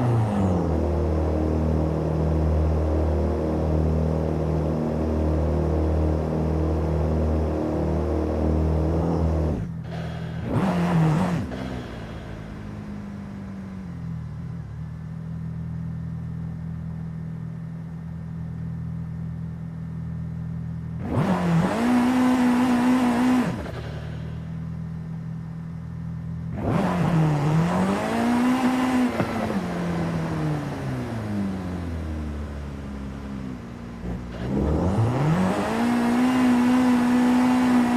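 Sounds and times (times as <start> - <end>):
video game car engine revving: 0.0 - 37.9.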